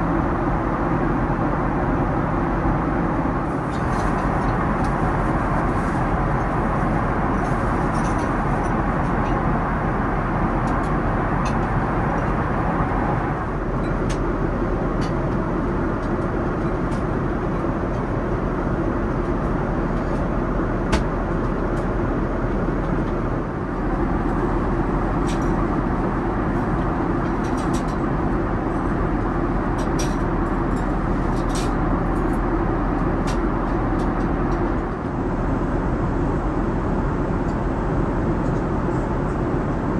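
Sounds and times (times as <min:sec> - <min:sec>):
airliner cabin noise: 0:00.0 - 0:39.9.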